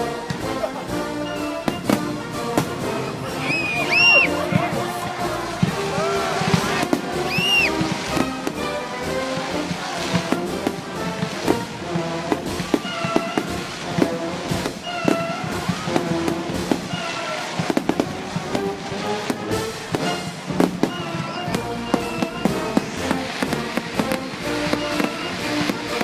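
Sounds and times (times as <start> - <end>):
fireworks bangs and crackling: 0.0 - 26.0
music with held notes: 0.0 - 26.0.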